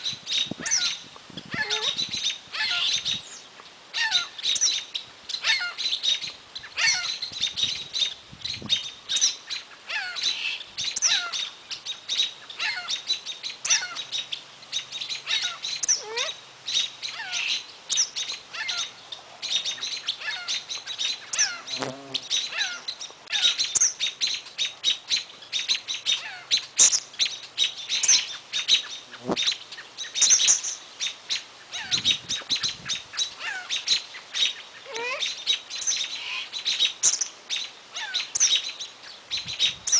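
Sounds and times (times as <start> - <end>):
songbirds chirping and calling: 0.0 - 39.9.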